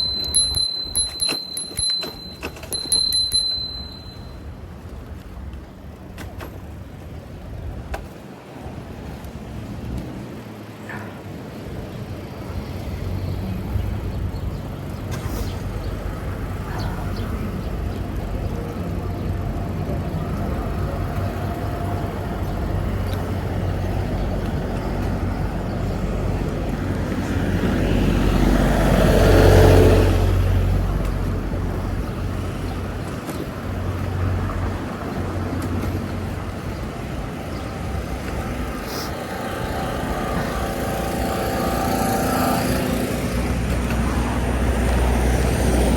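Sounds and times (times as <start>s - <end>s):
traffic rumble: 0.0s - 45.9s.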